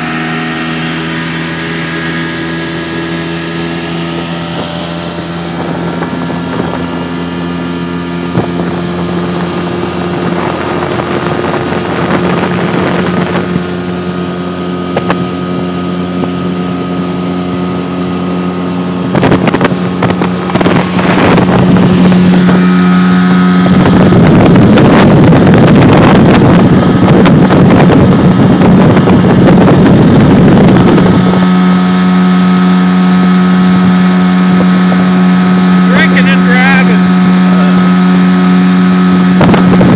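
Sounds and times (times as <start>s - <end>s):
outboard motor running: 0.0s - 39.9s
wind buffeting microphone: 0.0s - 39.9s.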